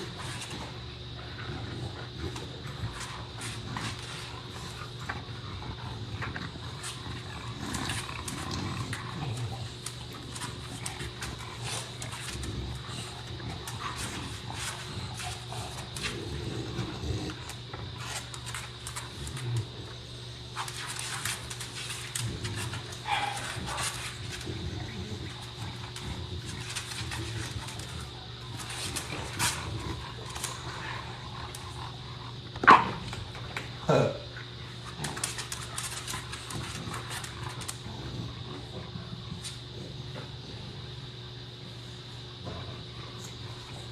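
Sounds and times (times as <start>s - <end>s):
dogs grunting and breathing: 0.0s - 43.9s
steady low hum: 0.0s - 43.9s.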